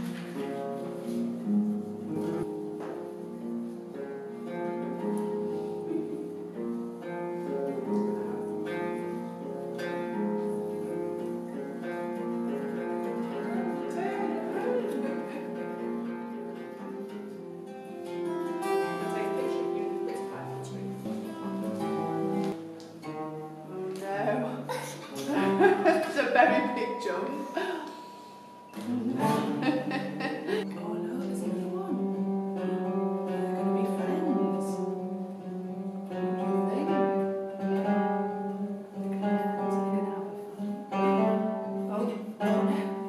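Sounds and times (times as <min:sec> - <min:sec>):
plucked string instrument music: 0:00.0 - 0:43.0.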